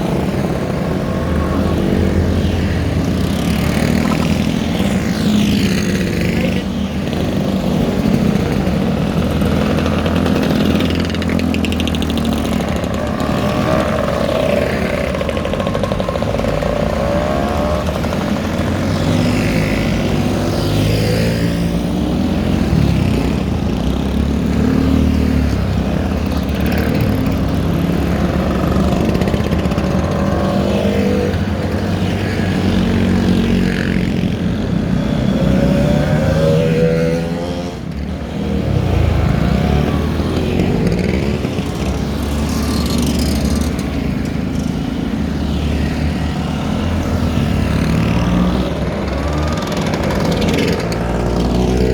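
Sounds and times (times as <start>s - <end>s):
motorcycles riding past: 0.0s - 51.9s.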